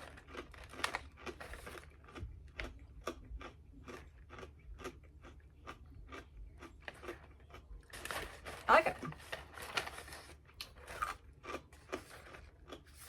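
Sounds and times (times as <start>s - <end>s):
person chewing crunchy cereal: 0.0s - 13.0s.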